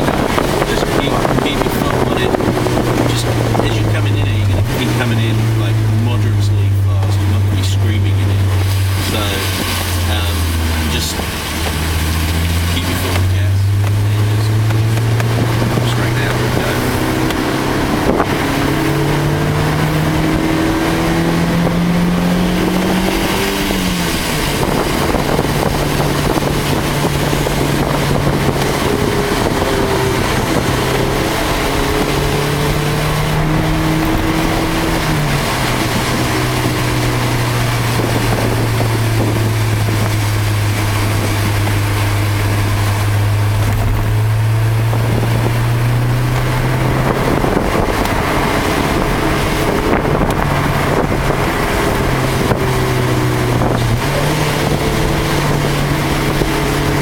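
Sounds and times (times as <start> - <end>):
car engine running: 0.0 - 57.0
road and tyre noise: 0.0 - 57.0.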